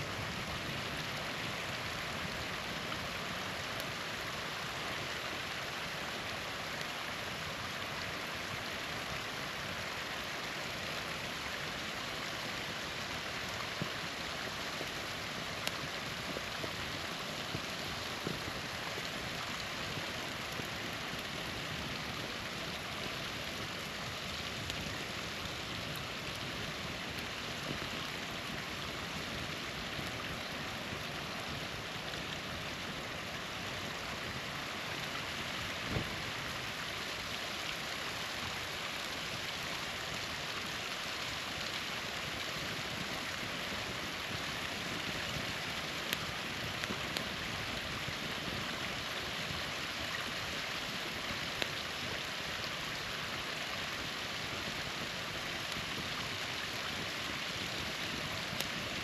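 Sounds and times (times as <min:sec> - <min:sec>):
campfire popping: 0:00.0 - 0:59.0
small waterfall splashing: 0:00.0 - 0:59.0.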